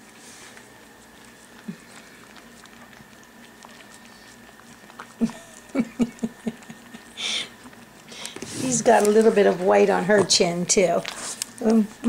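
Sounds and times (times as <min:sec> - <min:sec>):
dog licking with wet lapping: 0:00.0 - 0:12.0.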